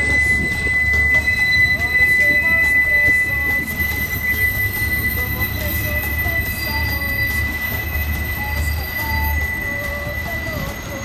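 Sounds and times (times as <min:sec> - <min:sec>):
rumble of rolling freight cars: 0:00.0 - 0:11.0
train wheels squealing on rails: 0:00.0 - 0:11.0.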